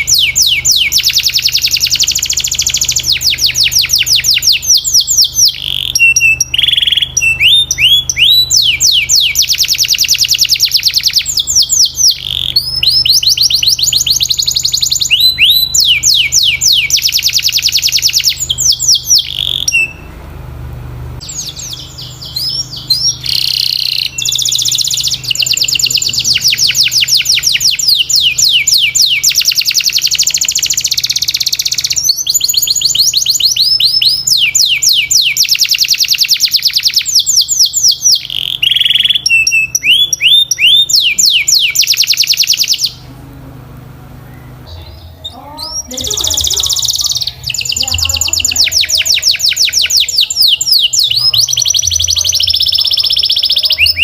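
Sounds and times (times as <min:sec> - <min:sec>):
canary singing trills: 0:00.0 - 0:20.2, 0:21.2 - 0:54.0
faint low hum: 0:00.0 - 0:35.7, 0:36.7 - 0:54.0.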